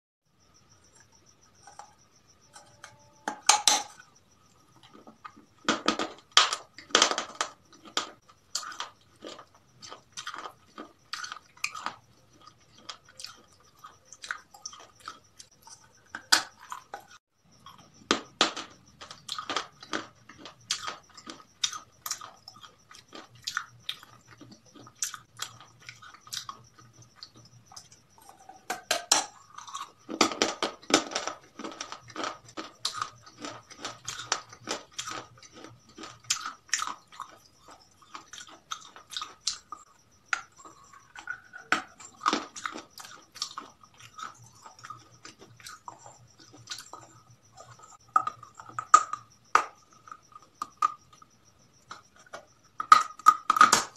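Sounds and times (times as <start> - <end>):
chewing and crunching food: 0.5 - 53.9.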